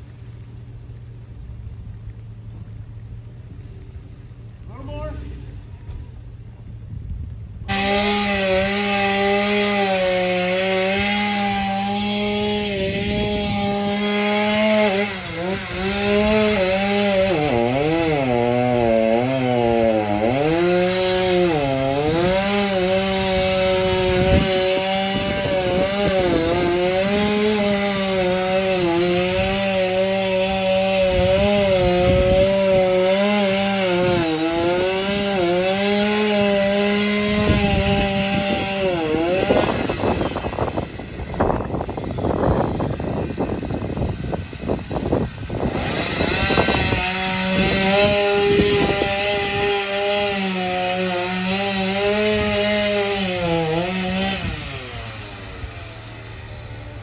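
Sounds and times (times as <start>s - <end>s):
chainsaw cutting wood: 7.6s - 57.0s.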